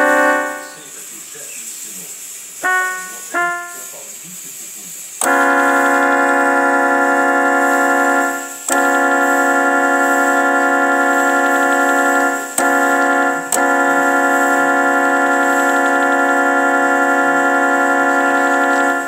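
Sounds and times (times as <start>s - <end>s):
steam whistle blasts: 0.0s - 4.1s, 5.2s - 19.0s.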